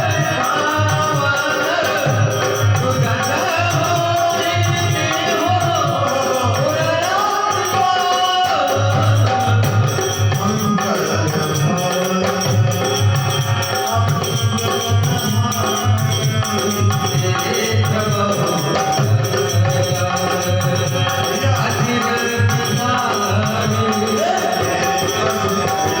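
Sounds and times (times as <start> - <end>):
jingling percussion: 0.0 - 26.0.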